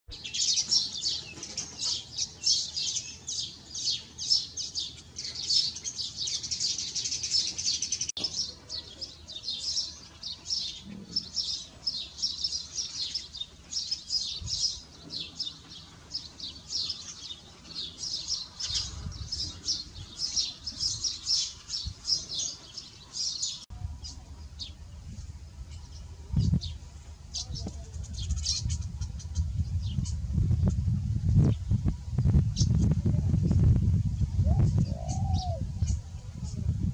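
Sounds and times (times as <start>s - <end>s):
weaver birds chattering: 0.2s - 30.3s, 34.2s - 36.7s.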